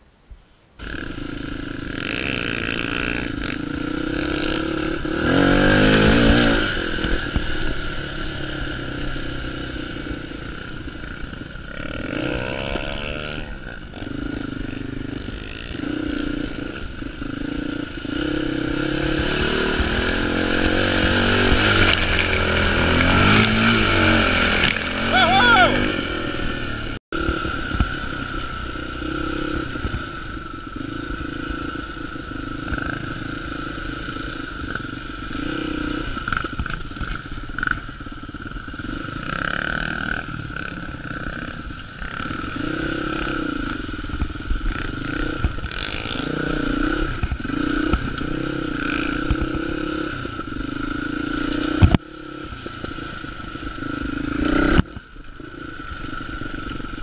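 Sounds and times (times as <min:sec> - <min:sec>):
dirt bike engine revving: 0:00.8 - 0:57.0.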